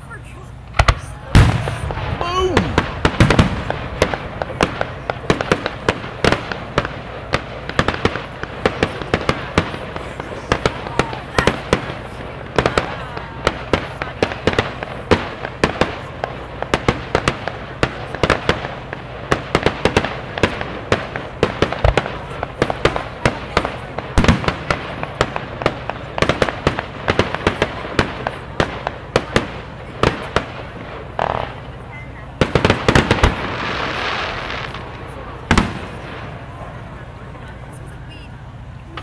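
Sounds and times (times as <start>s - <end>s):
fireworks crackling pops: 0.0s - 39.0s
fireworks booms: 0.6s - 39.0s.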